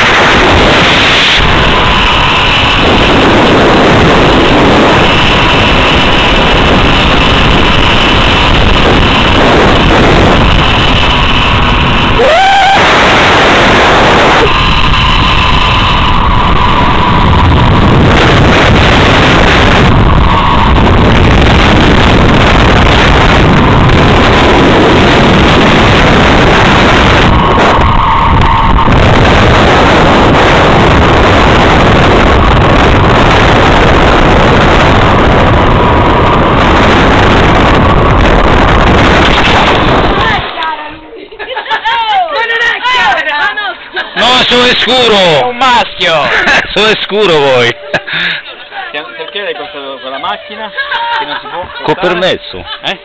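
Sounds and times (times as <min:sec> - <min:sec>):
wind rushing over microphone: 0:00.0 - 0:43.4, 0:44.1 - 0:48.5
faint whine: 0:00.0 - 0:53.0.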